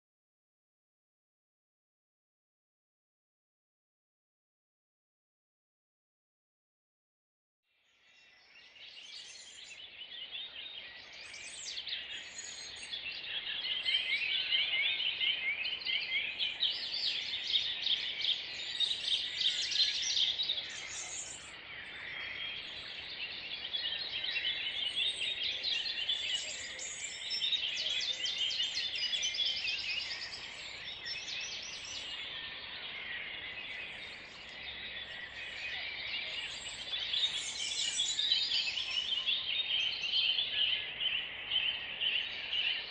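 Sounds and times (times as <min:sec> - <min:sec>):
chorus of songbirds singing: 0:07.7 - 0:42.9.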